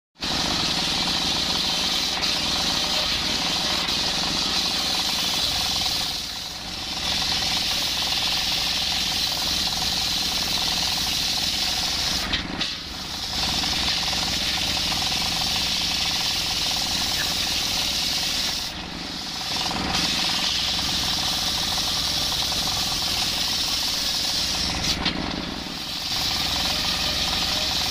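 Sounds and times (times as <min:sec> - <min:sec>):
circular saw ripping through log: 0:00.2 - 0:27.9
diesel engine running: 0:00.2 - 0:27.9.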